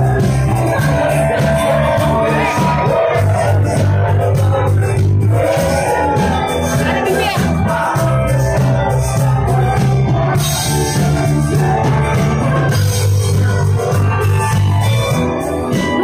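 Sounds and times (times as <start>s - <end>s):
heavy bass line: 0.0s - 16.0s
live rock band playing: 0.0s - 16.0s.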